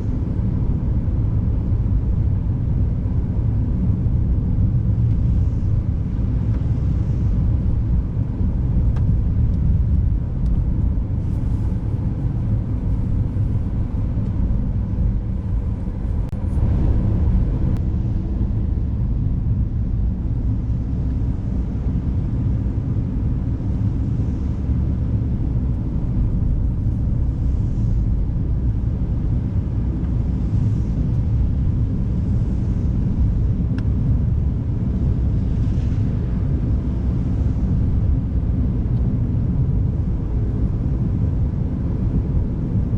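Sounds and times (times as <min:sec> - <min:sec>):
car driving on snowy road: 0:00.0 - 0:42.9.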